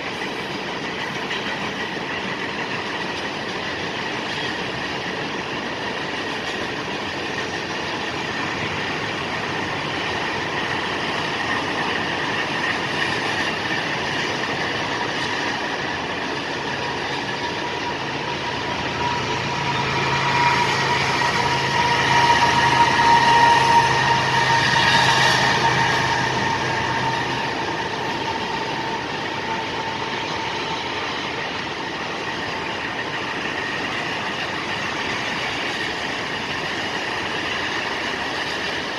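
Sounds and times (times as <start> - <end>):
train wheels rumbling on rail: 0.0 - 38.9
wheel squeal: 7.2 - 38.9.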